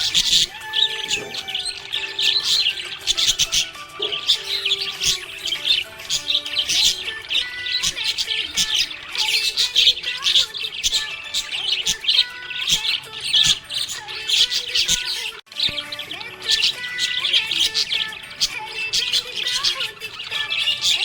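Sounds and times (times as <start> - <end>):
budgies chirping and warbling: 0.0 - 21.0.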